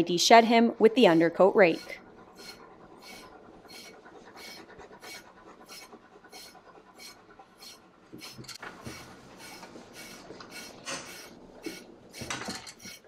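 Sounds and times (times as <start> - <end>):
brush rasping through dog fur: 1.0 - 13.0.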